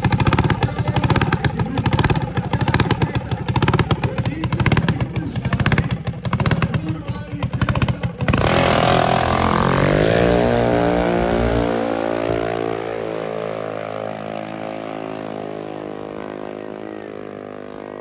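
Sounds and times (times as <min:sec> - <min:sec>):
dragster engine at full throttle: 0:00.0 - 0:18.0.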